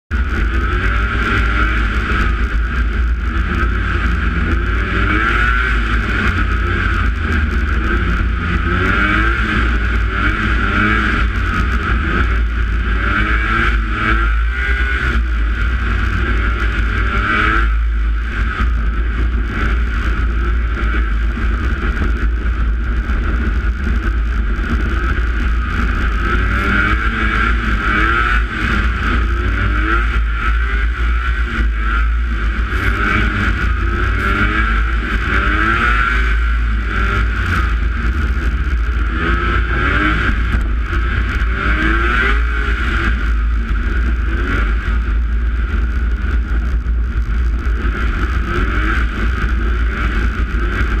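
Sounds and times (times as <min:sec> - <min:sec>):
steady rush of noise: 0:00.0 - 0:51.0
snowmobile engine running: 0:00.1 - 0:51.0.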